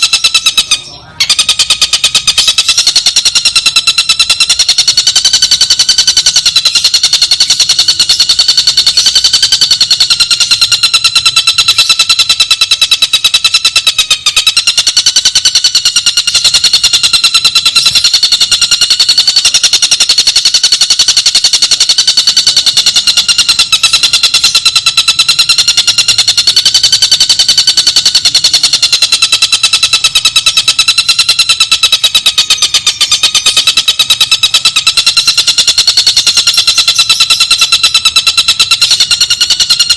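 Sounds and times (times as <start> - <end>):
bird rattling trill: 0.0 - 39.9.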